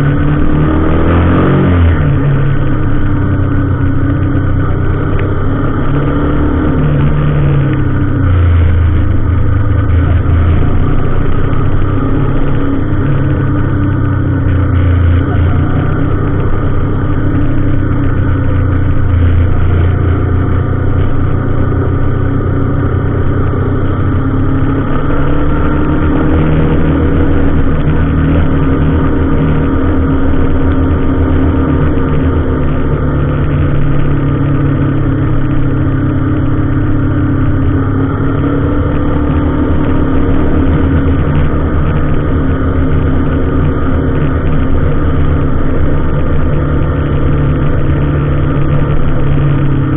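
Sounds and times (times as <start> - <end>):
vehicle engine droning: 0.0 - 49.9.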